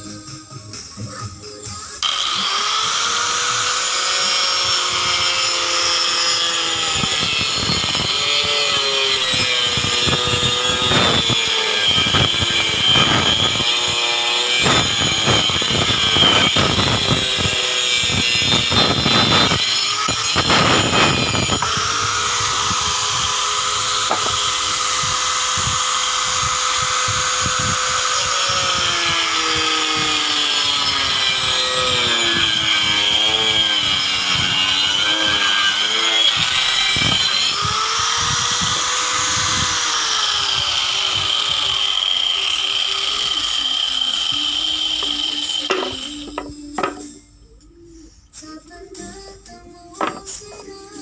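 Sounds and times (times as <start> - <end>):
electric power tool motor running: 2.0 - 47.1, 50.0 - 50.3.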